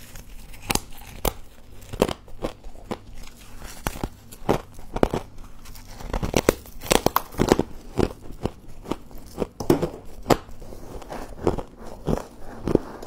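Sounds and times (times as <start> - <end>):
frost being chewed crunching: 0.0 - 13.0.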